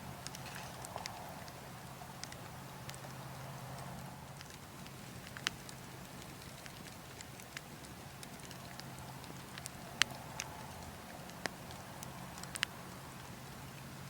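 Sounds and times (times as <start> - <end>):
burning logs crackling: 0.0 - 14.0
low rush of wind: 0.0 - 14.0.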